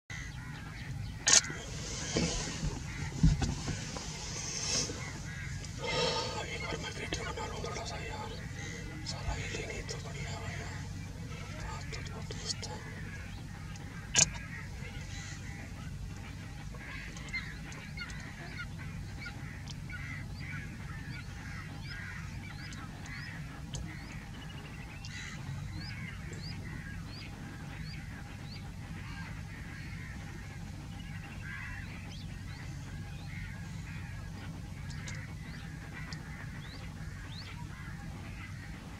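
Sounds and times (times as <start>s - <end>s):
chorus of birds calling: 0.1s - 38.9s
steady low rumble: 0.1s - 38.9s.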